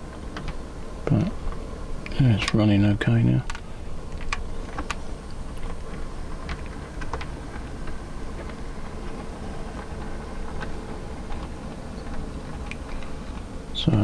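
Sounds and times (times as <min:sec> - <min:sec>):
wheels clicking on rails: 0:00.0 - 0:14.0.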